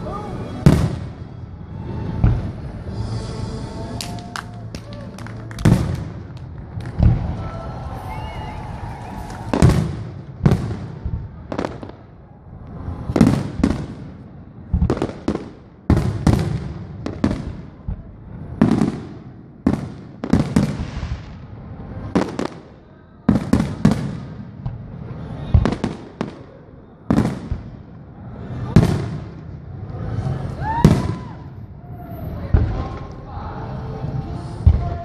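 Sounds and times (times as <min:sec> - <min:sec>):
fireworks booming: 0:00.5 - 0:03.4, 0:05.2 - 0:31.6, 0:32.2 - 0:33.2, 0:34.5 - 0:35.0.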